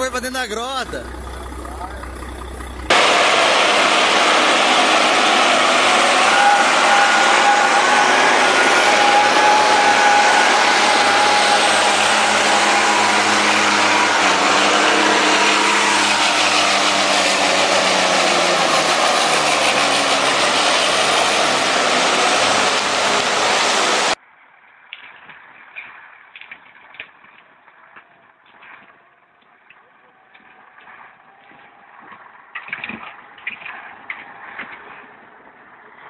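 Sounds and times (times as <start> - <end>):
diesel truck engines under load: 0.0 - 36.0.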